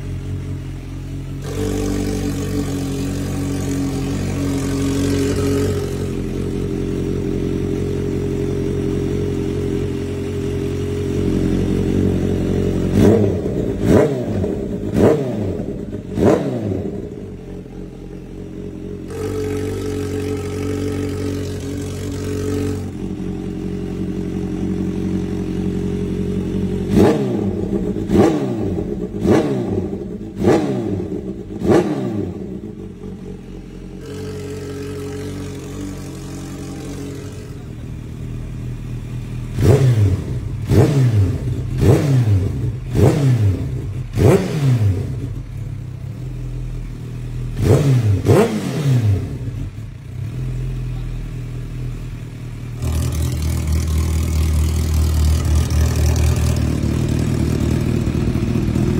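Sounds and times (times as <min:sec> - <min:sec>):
motorcycle engine idling and revving: 0:00.0 - 0:58.9.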